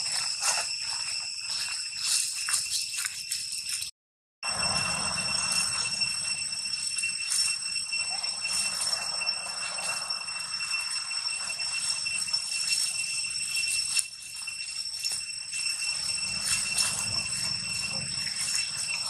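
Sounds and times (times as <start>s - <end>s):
high-pitched drone: 0.0s - 3.8s, 4.4s - 19.0s.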